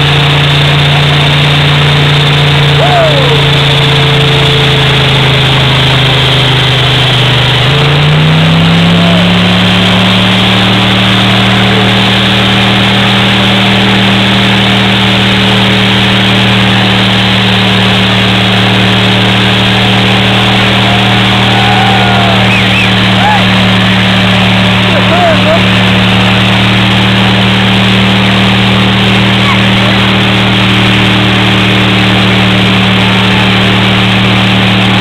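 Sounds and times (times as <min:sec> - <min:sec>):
car engine at high revs: 0:00.0 - 0:35.0
spinning tires hissing: 0:00.0 - 0:35.0.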